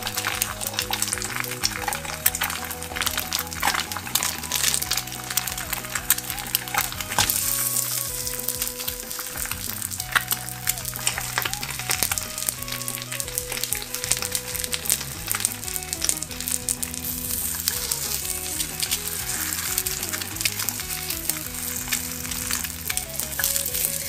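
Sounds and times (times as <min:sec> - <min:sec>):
patty and egg sizzling in oil: 0:00.0 - 0:24.0.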